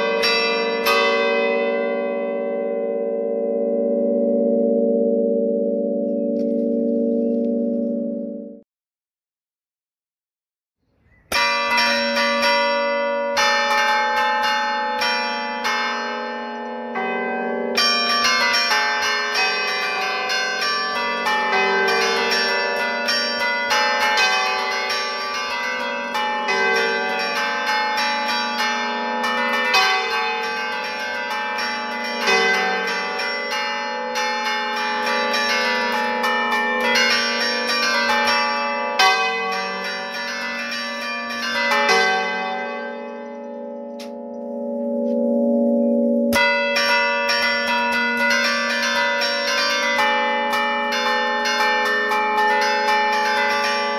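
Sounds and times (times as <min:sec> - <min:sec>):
church bells ringing a tune: 0:00.0 - 0:08.6, 0:11.3 - 0:53.9.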